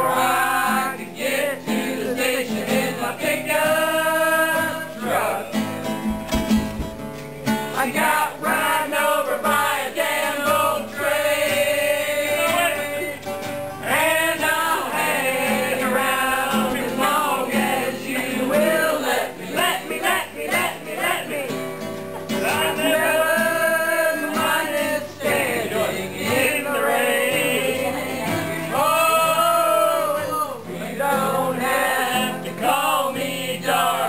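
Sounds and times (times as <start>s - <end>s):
group singing country song: 0.0s - 34.0s
guitar accompaniment: 0.0s - 34.0s.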